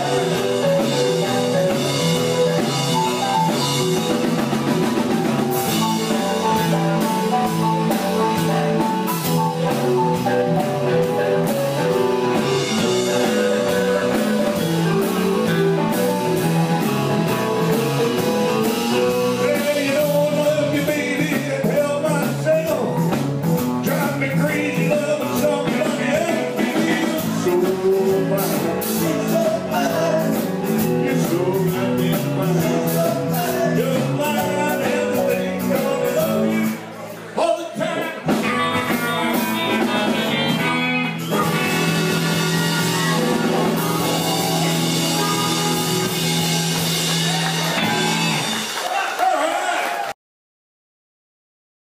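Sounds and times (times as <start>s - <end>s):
drum kit: 0.0s - 36.9s, 38.2s - 49.2s
electric guitar: 0.0s - 37.1s, 38.2s - 48.9s
person singing: 0.0s - 48.5s.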